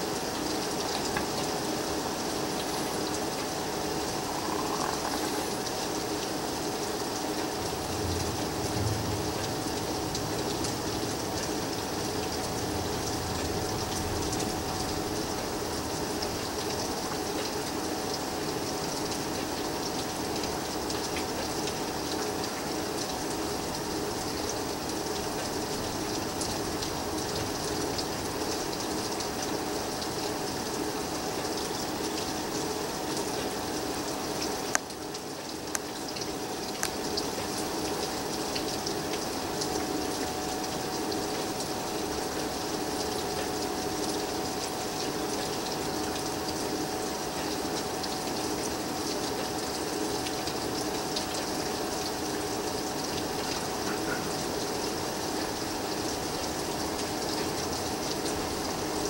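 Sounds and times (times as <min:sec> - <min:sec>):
faint steady hum: 0:00.0 - 0:59.0
steady rain: 0:00.0 - 0:59.0
water running off: 0:00.1 - 0:59.0.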